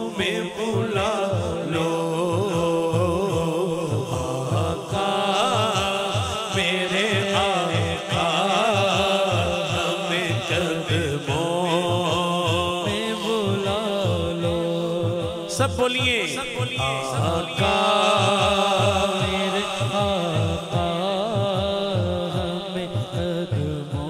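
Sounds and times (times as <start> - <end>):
background chanting voices: 0.0 - 24.0
man singing into a microphone: 0.0 - 24.0.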